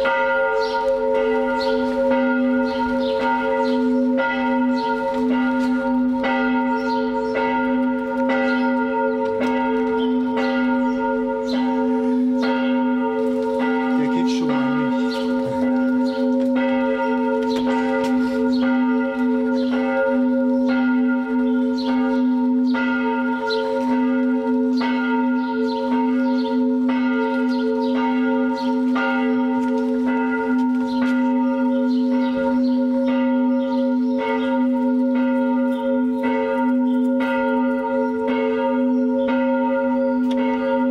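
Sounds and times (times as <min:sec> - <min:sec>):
church bells ringing a peal: 0:00.0 - 0:40.9.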